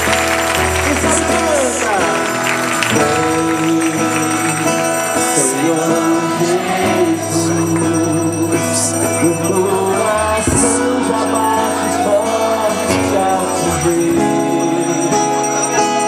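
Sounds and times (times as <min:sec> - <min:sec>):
worship music with singing: 0:00.0 - 0:16.0.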